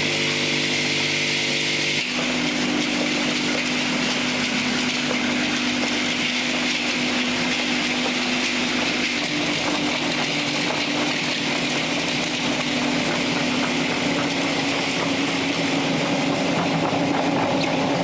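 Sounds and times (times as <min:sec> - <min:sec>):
machinery running: 0:00.0 - 0:18.0.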